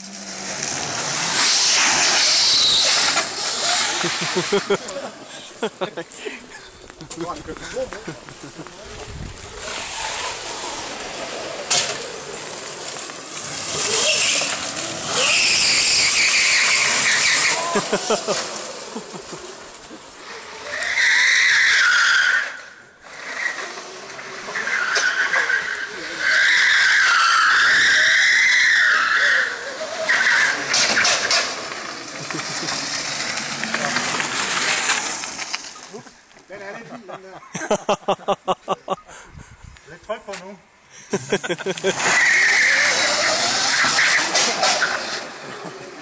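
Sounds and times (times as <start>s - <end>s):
tyres squealing: 0.0s - 37.7s, 40.4s - 46.0s.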